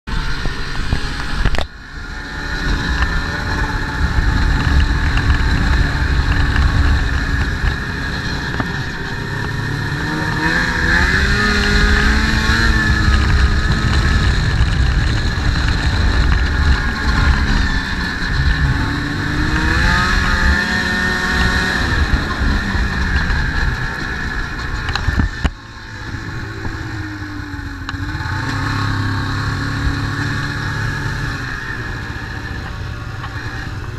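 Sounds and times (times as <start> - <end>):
snowmobile engine revving: 0.1 - 33.9.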